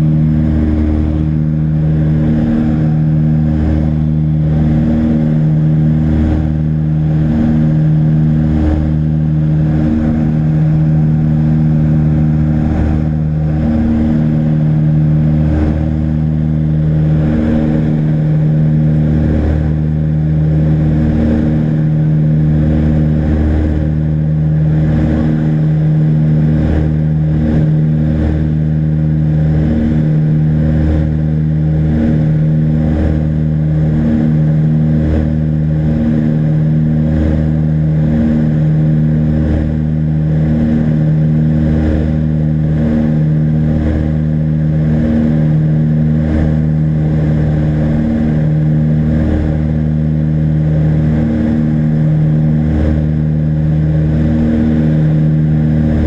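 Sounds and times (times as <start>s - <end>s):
propeller engines droning: 0.0s - 56.0s.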